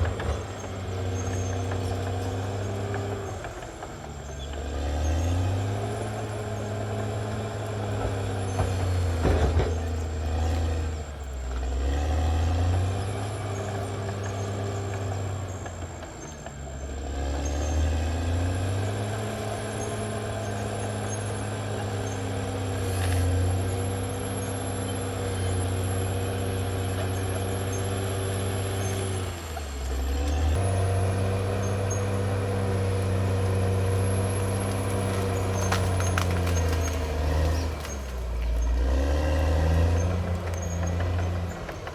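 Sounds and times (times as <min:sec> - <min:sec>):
bulldozer diesel engine: 0:00.0 - 0:41.9.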